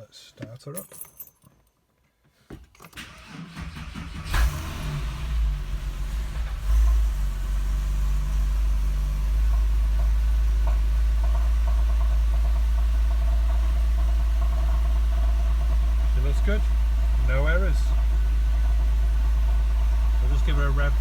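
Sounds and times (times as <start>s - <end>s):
car engine revving and idling: 3.5s - 21.0s.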